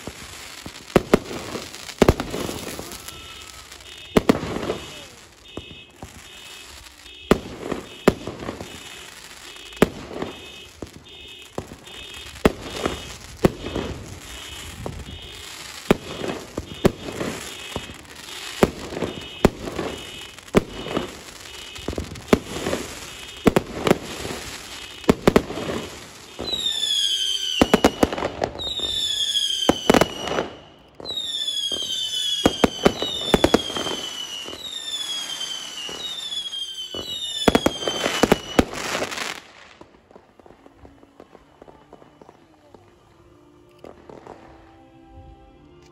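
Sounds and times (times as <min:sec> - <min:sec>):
firework bangs: 0:00.0 - 0:42.9
whistling fireworks: 0:00.0 - 0:43.1.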